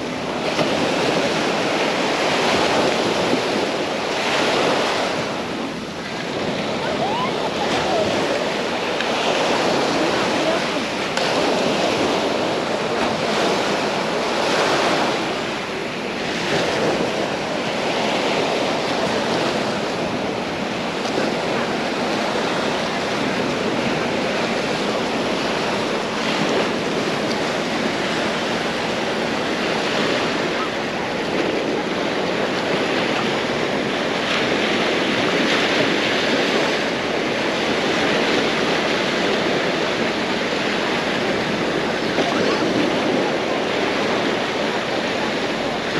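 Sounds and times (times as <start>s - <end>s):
small waves breaking on shore: 0.0s - 45.9s
wind noise on microphone: 0.0s - 45.9s.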